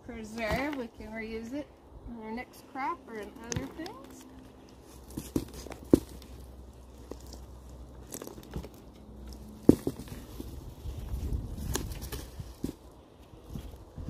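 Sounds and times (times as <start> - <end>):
potting soil crunching: 0.0 - 1.6, 2.3 - 14.0.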